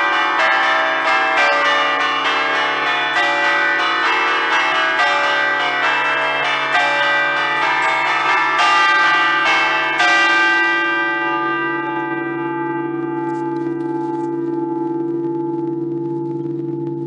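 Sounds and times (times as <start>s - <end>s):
church bells pealing: 0.0s - 16.8s
bells ringing on with low hum: 0.0s - 17.0s.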